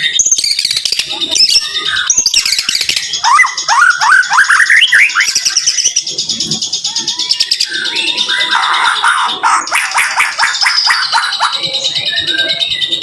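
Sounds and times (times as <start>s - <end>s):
songbird singing rapid song: 0.0s - 13.0s
fast high chattering trills: 1.0s - 12.8s.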